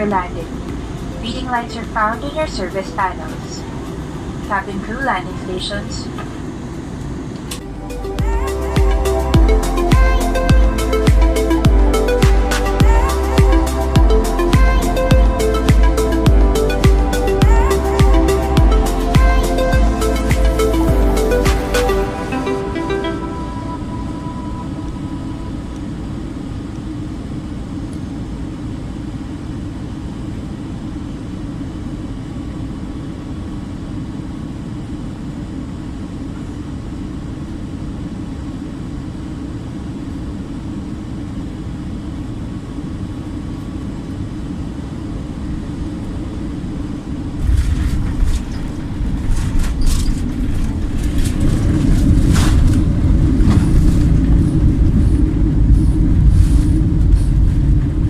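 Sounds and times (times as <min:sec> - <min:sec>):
aircraft cabin rumble: 0:00.0 - 0:22.2, 0:23.2 - 0:58.0.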